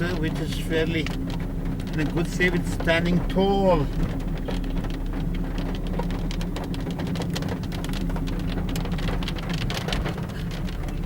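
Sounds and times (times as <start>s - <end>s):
low engine hum: 0.0s - 11.0s
rain drumming on car roof: 0.0s - 11.0s.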